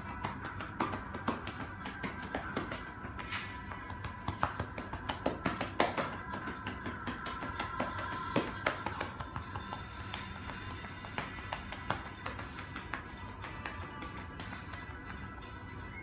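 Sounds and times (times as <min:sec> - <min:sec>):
hands tapping and slapping a back: 0:00.0 - 0:15.6.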